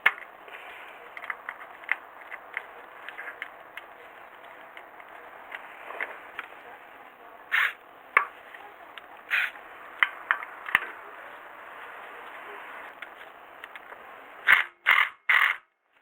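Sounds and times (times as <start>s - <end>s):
short bursts of noise: 0.0s - 15.6s.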